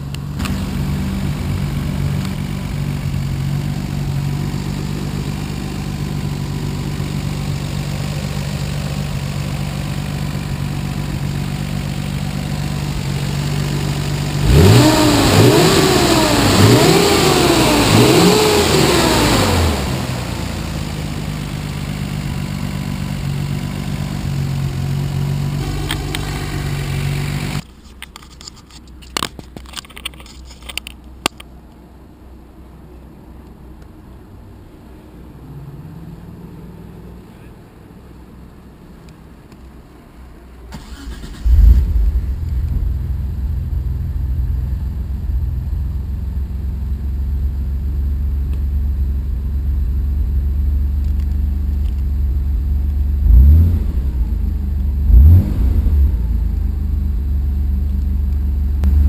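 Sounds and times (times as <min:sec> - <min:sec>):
car engine idling and revving: 0:00.0 - 0:27.7, 0:33.8 - 0:59.0.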